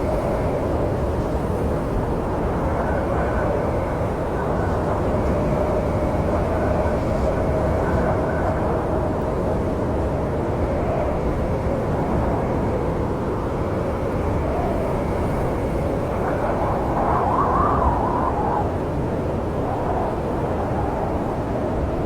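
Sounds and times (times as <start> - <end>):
howling wind: 0.0 - 22.0.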